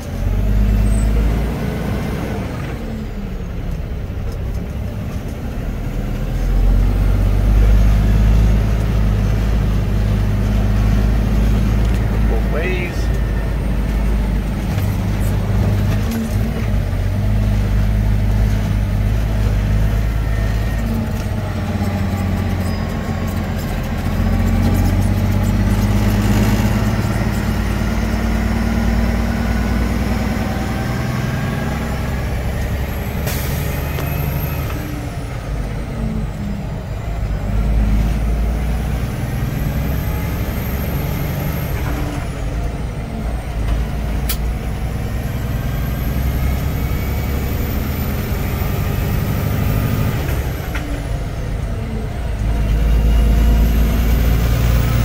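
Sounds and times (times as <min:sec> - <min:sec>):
truck diesel engine shifting gears: 0:00.0 - 0:55.0.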